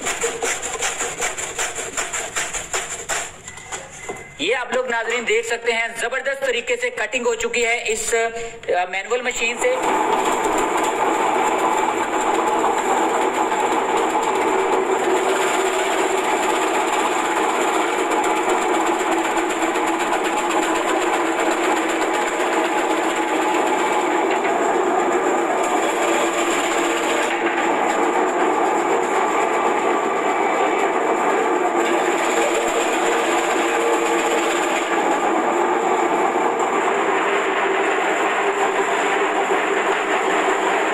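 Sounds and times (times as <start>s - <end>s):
vegetable slicing machine clattering: 0.0s - 4.3s, 9.2s - 40.9s.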